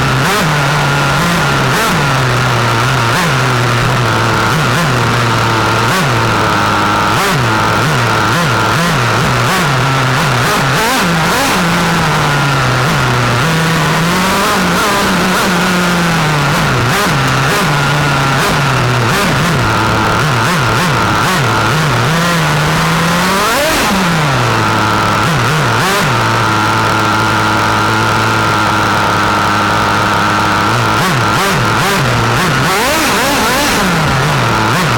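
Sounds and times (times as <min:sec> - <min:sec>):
nitro engine revving: 0:00.0 - 0:34.9.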